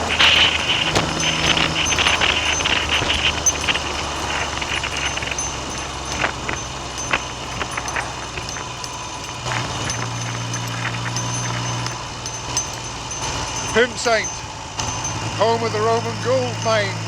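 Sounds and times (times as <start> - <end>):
motorcycle engine running: 0.0 - 17.0
wind noise on microphone: 0.0 - 17.0.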